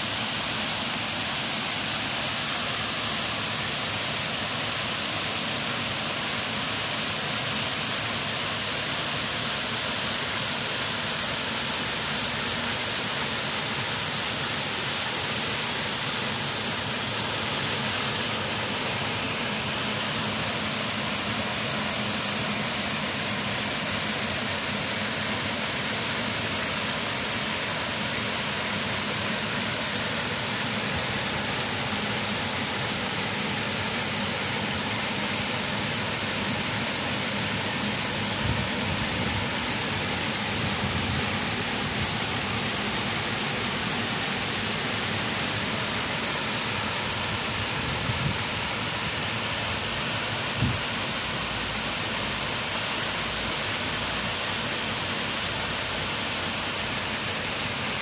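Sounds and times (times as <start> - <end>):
waterfall rushing hiss: 0.0 - 58.0.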